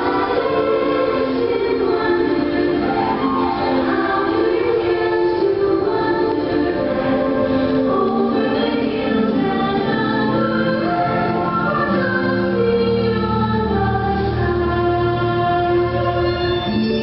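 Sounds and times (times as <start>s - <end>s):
choir singing held notes: 0.0s - 14.6s
orchestral music: 0.0s - 17.0s.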